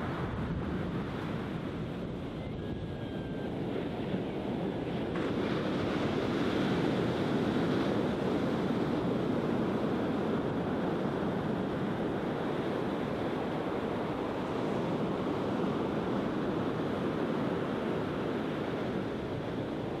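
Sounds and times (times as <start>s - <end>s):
surf washing up sandy beach: 3.7s - 20.0s.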